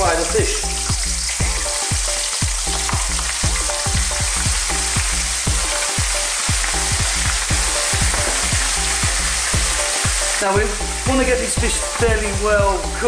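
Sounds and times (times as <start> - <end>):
fish deep-frying in sizzling oil: 0.0 - 13.0.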